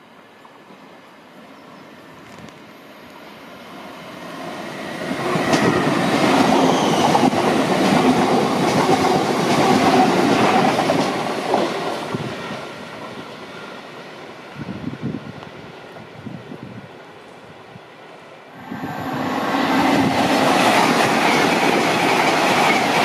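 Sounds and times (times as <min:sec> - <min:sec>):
train wheels on rails: 0:00.0 - 0:23.0.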